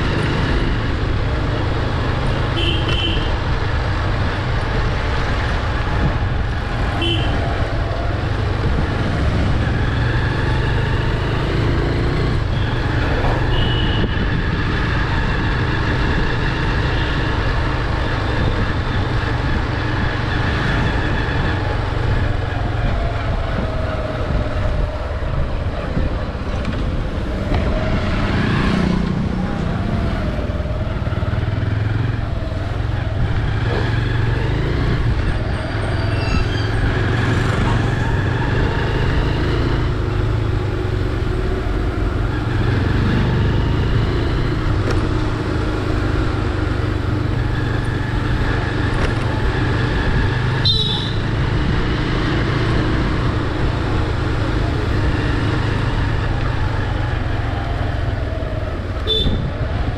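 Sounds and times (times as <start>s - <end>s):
passing road traffic: 0.0s - 59.9s.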